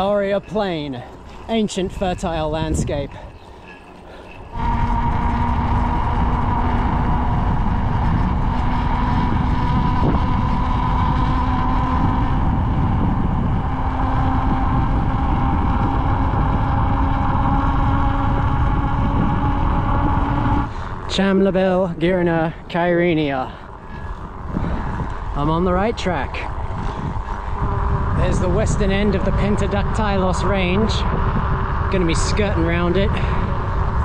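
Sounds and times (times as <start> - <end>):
bicycle tyres rolling on asphalt: 0.0 - 34.0
bicycle whine: 0.0 - 34.0
wind rushing: 4.4 - 34.0.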